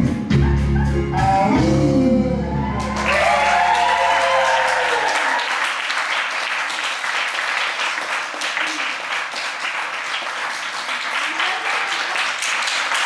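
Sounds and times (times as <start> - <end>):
audience applause: 2.5 - 13.0.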